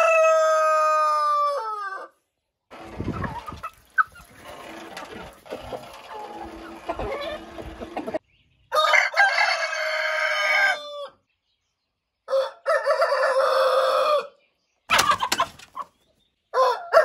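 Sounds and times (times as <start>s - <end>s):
roosters crowing: 0.0s - 11.2s, 12.3s - 15.9s, 16.5s - 17.0s.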